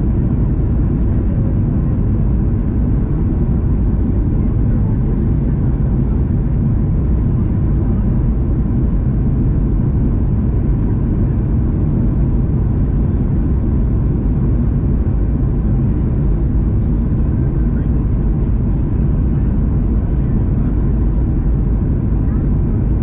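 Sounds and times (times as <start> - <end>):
airplane engine and airflow rumble: 0.0 - 23.0
faint steady whine: 0.0 - 23.0.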